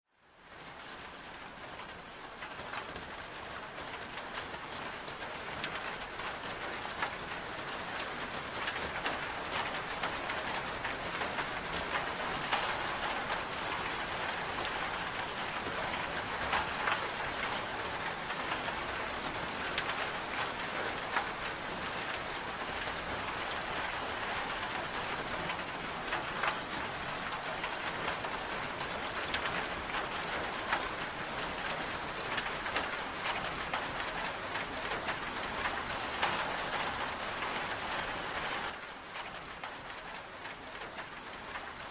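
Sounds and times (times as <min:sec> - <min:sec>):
raindrops ticking close by: 0:00.2 - 0:41.9
steady rain hiss: 0:00.2 - 0:41.9.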